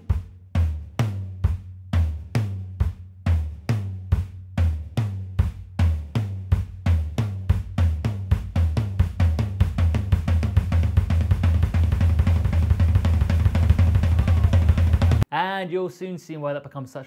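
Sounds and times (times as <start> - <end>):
drum kit playing: 0.0 - 15.3.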